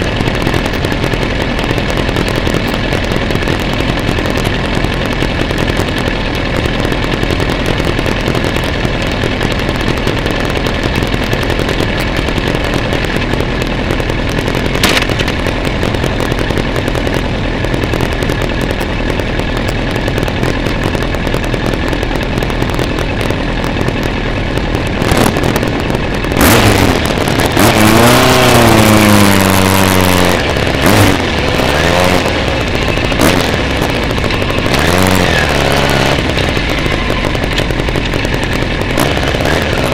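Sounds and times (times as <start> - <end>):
motorcycle engines idling: 0.0 - 39.9
motorcycle revving through gears: 0.0 - 39.9.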